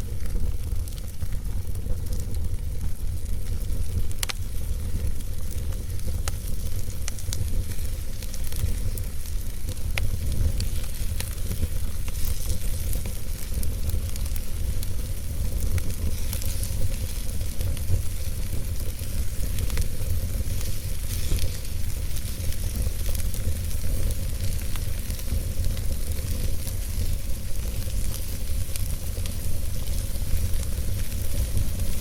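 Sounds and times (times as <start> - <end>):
fire crackling: 0.0 - 32.0
wood popping in fire: 0.0 - 32.0.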